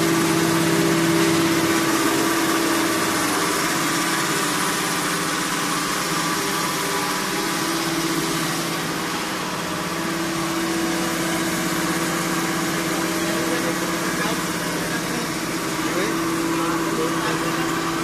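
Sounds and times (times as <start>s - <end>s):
electric motors humming: 0.0s - 18.0s.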